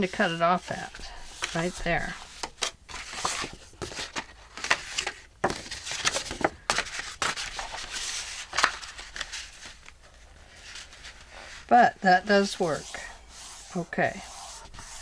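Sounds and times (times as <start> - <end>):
paper rustling and sliding: 0.0 - 11.7, 12.3 - 15.0.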